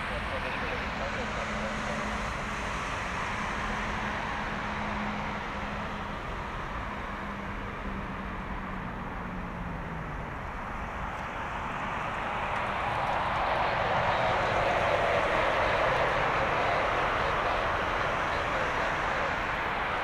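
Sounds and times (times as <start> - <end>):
jet engine landing: 0.0 - 6.8, 10.1 - 20.0.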